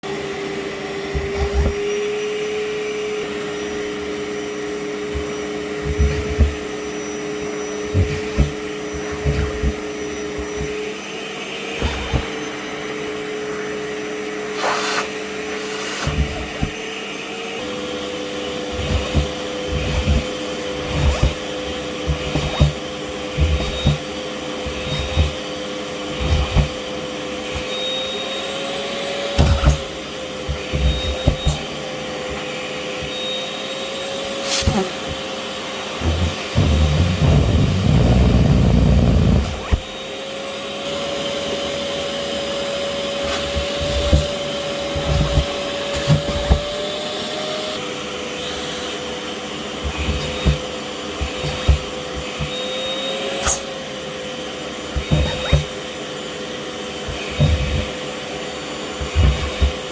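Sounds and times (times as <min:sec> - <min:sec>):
wet dry vacuum cleaner running: 0:00.0 - 0:59.9.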